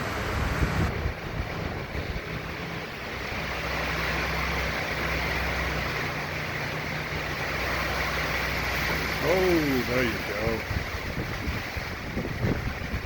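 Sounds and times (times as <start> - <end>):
wind buffeting microphone: 0.0 - 6.2, 8.0 - 13.0
wind and rain: 0.0 - 13.0.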